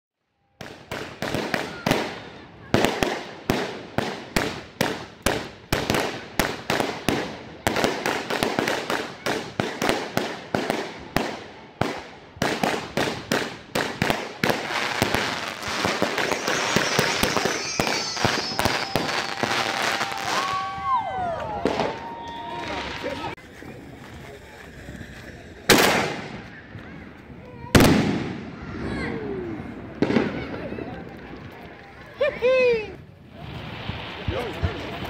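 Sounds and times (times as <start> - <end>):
whistling fireworks: 0.3 - 35.0
fireworks bangs and crackle: 0.5 - 35.0.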